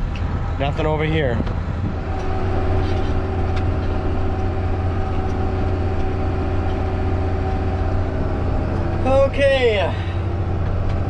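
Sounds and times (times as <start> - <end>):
tractor diesel engine droning: 1.2 - 11.0.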